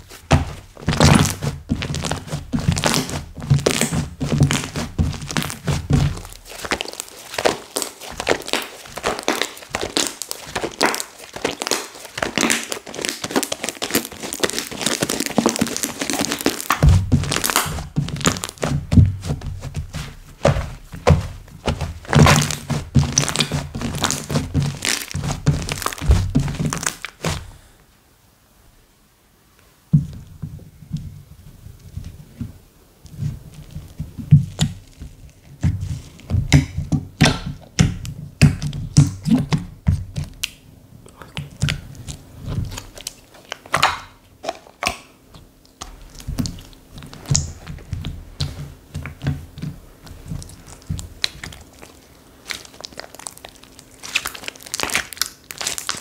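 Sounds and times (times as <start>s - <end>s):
hands squishing slime: 0.0s - 27.7s, 33.1s - 56.0s.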